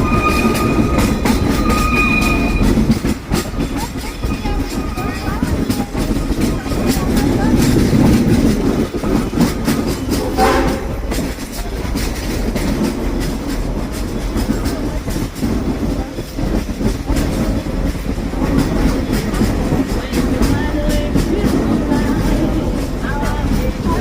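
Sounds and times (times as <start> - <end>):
train rumble: 0.0 - 24.0
wheels clacking over rail joints: 0.0 - 24.0.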